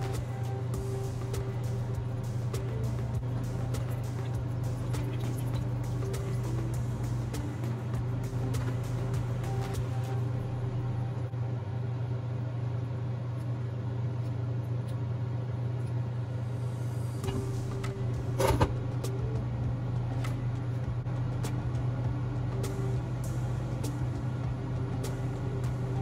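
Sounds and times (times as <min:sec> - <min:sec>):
kitchen machinery humming: 0:00.0 - 0:26.0.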